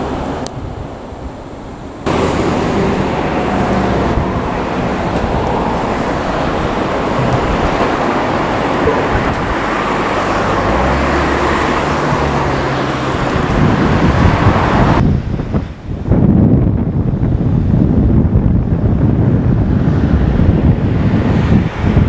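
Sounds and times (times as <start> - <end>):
low engine hum: 0.0 - 22.0
passing traffic rumble: 0.0 - 22.0.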